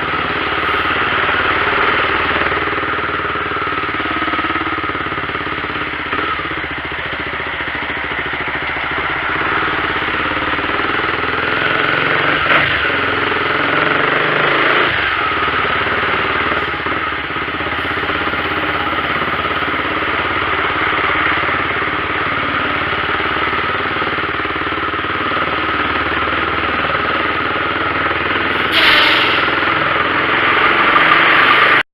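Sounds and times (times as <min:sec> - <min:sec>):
diesel truck engine roaring: 0:00.0 - 0:31.9.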